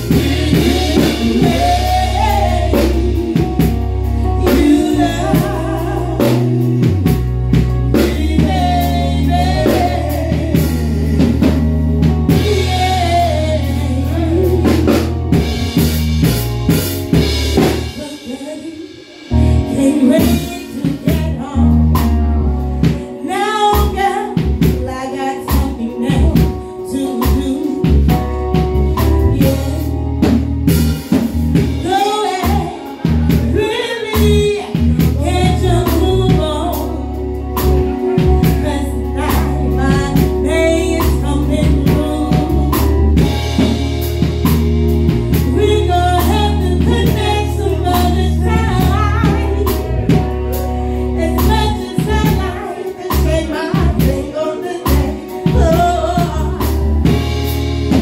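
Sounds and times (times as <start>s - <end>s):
woman singing into a microphone: 0.0s - 16.0s, 17.2s - 43.9s, 45.3s - 57.4s
bass line: 0.0s - 58.0s
drum kit: 0.0s - 58.0s.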